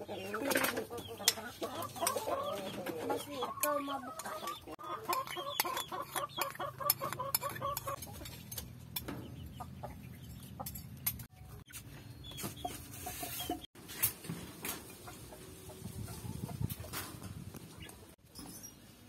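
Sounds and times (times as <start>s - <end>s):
chickens clucking: 0.0s - 18.2s.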